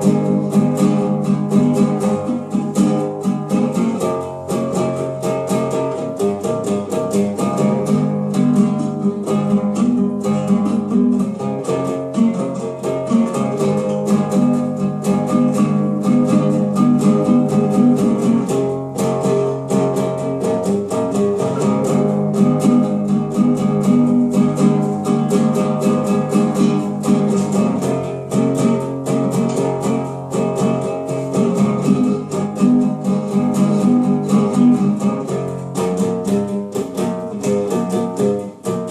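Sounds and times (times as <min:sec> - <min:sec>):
acoustic guitar strumming chords: 0:00.0 - 0:38.9.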